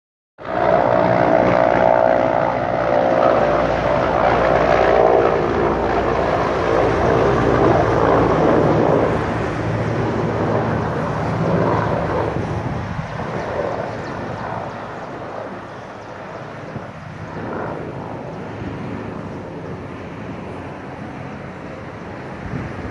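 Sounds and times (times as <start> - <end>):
airplane engines droning overhead: 0.4 - 22.9.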